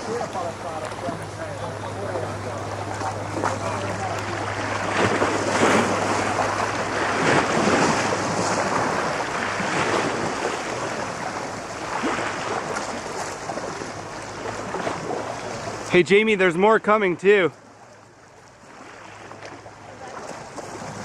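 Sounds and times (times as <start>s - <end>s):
low steady hum: 0.0s - 21.0s
steady rushing outdoor noise: 0.0s - 21.0s.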